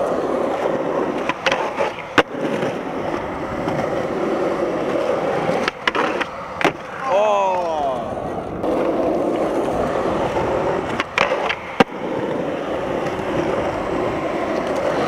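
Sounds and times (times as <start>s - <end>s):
skateboard clacking: 0.0s - 15.0s
skateboard wheels rolling on concrete: 0.0s - 15.0s.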